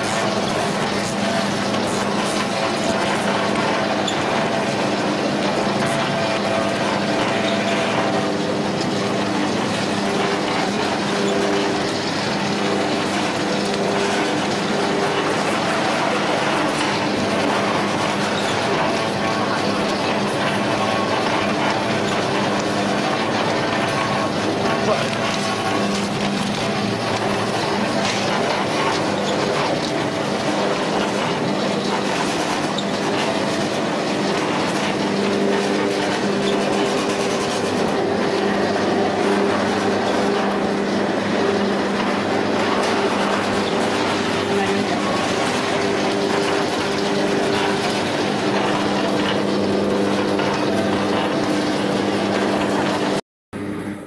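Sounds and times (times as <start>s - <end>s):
mechanical roller clatter: 0.0s - 53.2s
machine running: 0.0s - 54.0s.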